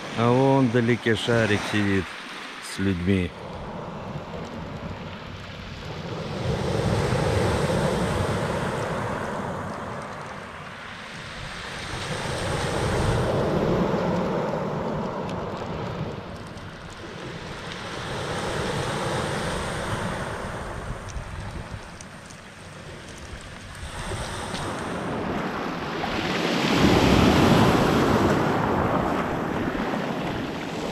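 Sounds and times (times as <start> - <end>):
waves breaking on pebble beach: 0.0 - 30.9.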